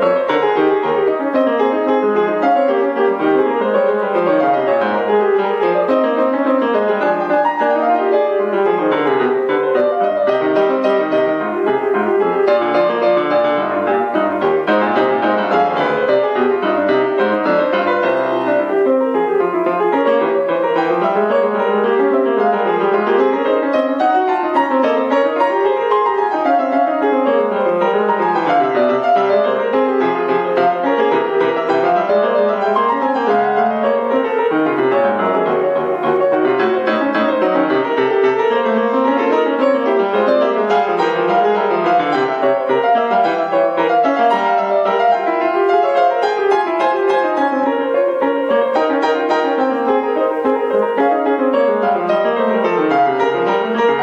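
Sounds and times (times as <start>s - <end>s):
solo grand piano: 0.0s - 54.0s.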